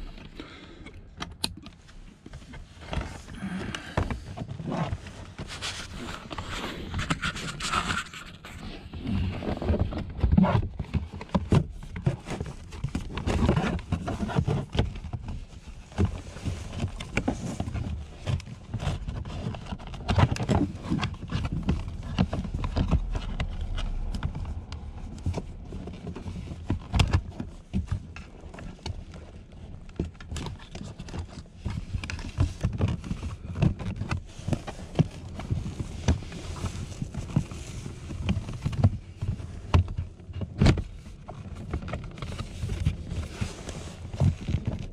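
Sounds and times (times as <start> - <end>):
plastic knocks clicks and scrapes: 0.0 - 44.9.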